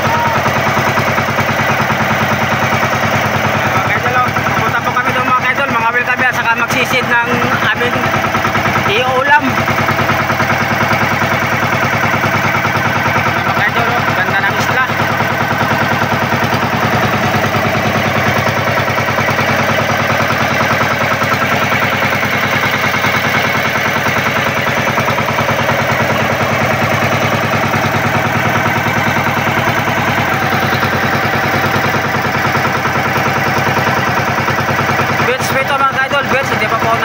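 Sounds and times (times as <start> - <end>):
boat engine putt-putt: 0.0 - 37.0.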